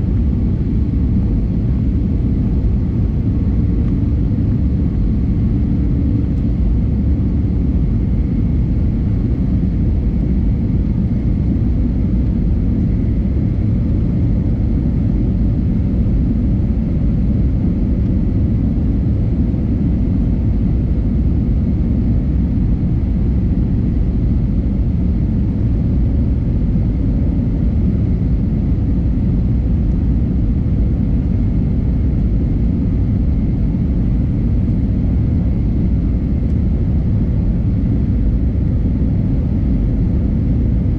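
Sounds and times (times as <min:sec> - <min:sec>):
airliner cabin rumble: 0:00.0 - 0:40.9
faint steady whine: 0:00.0 - 0:40.9.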